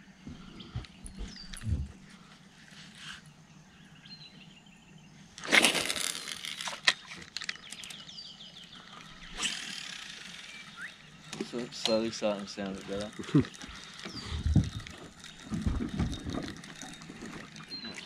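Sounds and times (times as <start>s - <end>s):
birds chirping: 0.0s - 5.4s, 6.0s - 18.0s.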